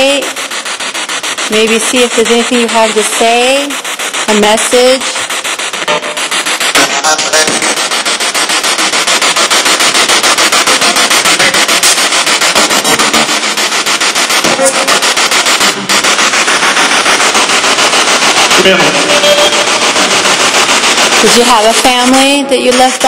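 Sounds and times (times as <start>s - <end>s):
choppy radio static: 0.0s - 23.0s
snatches of voices: 0.0s - 23.0s.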